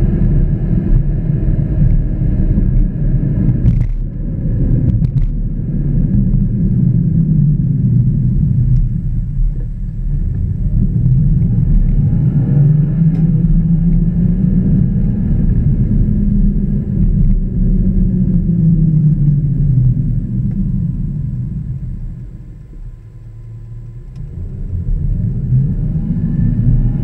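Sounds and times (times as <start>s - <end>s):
car engine: 0.0s - 27.0s
road noise: 0.0s - 27.0s.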